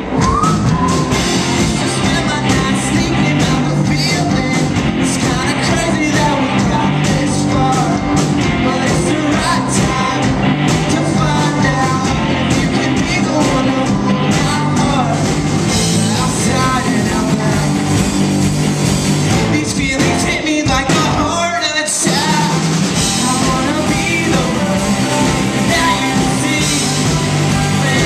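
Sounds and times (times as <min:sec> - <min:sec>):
person singing: 0:00.0 - 0:18.1, 0:19.4 - 0:28.0
bass: 0:00.0 - 0:28.0
drums: 0:00.0 - 0:28.0
electric guitars: 0:00.0 - 0:28.0.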